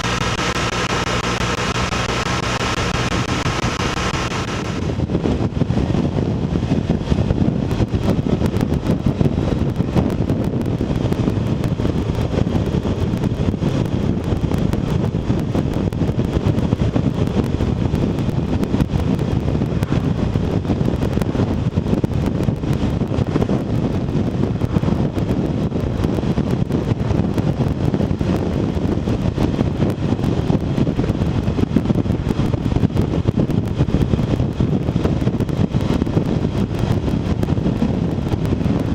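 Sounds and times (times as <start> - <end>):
motorcycle engine drone: 0.0 - 38.9
wind and road noise: 0.0 - 38.9.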